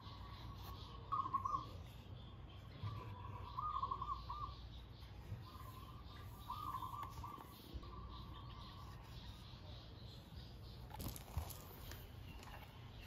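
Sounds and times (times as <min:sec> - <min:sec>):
bird calling: 0:00.0 - 0:13.0.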